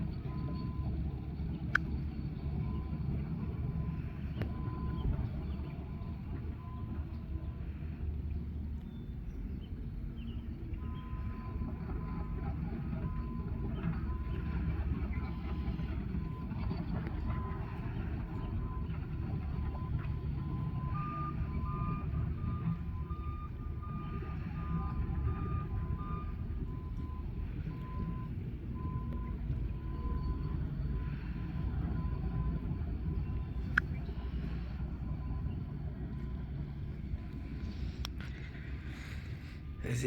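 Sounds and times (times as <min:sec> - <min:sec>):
vehicle reversing alarms beeping: 0:00.0 - 0:40.0.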